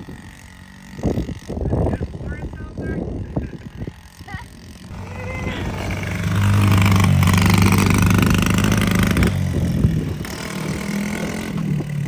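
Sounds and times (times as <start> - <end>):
dirt bike engine under throttle: 0.0 - 12.0.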